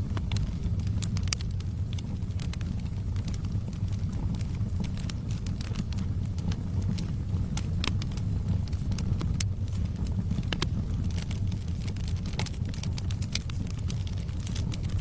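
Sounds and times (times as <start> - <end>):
logs crackling and popping: 0.0 - 15.0
low rumble of fire: 0.0 - 15.0.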